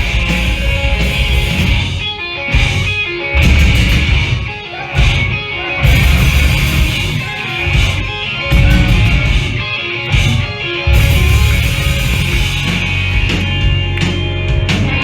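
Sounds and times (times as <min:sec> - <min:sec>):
band playing distorted guitars: 0:00.0 - 0:15.0.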